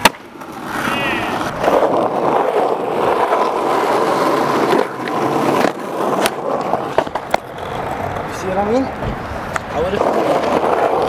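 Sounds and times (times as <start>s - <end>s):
skateboard clacks: 0.0s - 11.0s
skateboard wheels rolling on asphalt: 0.0s - 11.0s.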